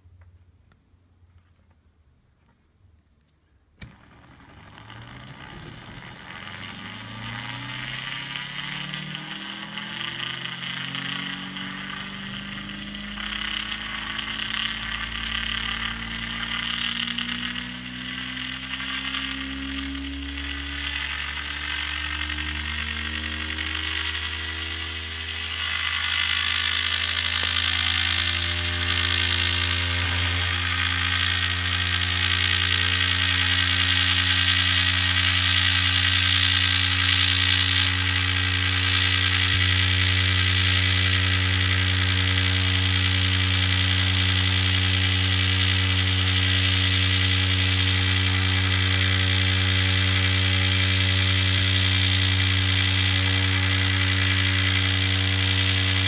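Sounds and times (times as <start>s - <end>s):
electric motor buzzing hum: 3.8s - 56.0s.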